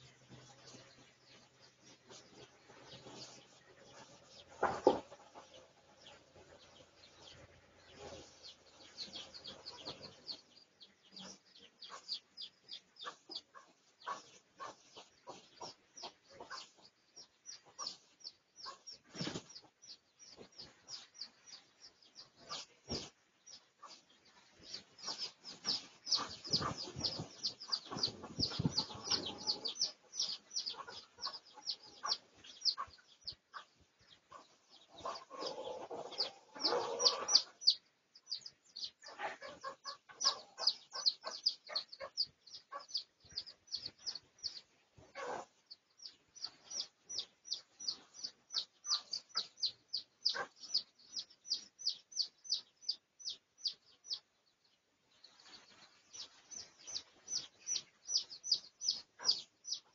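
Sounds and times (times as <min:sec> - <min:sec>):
chicks chirping: 0:00.0 - 0:59.9
hens clucking: 0:02.1 - 0:52.7.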